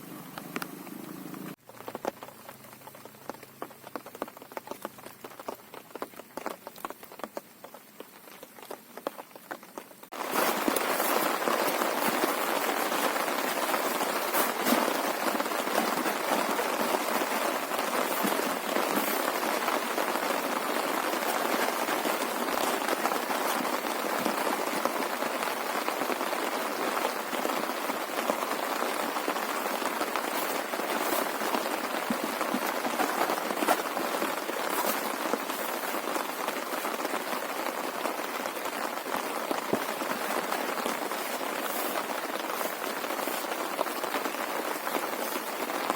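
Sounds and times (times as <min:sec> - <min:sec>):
heavy rain falling: 0:00.0 - 0:45.9
sharp raindrop impacts: 0:00.1 - 0:45.9.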